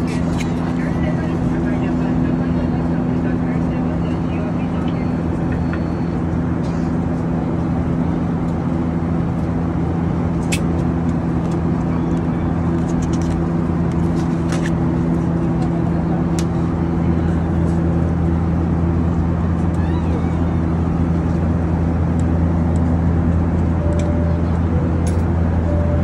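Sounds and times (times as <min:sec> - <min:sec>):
airliner cabin engine rush: 0:00.0 - 0:26.0
constant low hum: 0:00.0 - 0:26.0.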